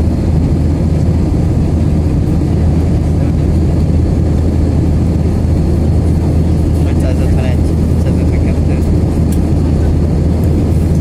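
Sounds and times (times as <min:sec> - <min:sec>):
jet engines and airflow rumble: 0:00.0 - 0:11.0.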